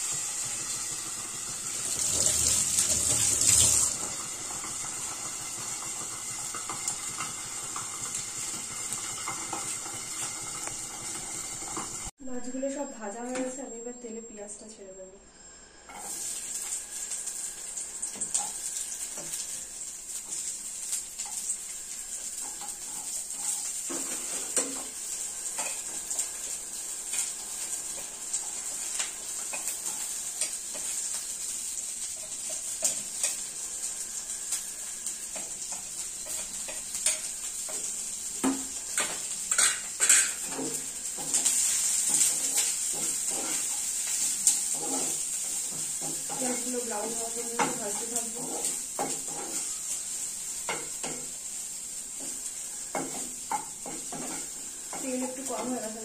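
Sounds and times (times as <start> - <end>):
onions sizzling in hot oil: 0.0 - 12.8, 15.6 - 56.0
spatula scraping a pan: 4.0 - 12.1, 15.9 - 56.0.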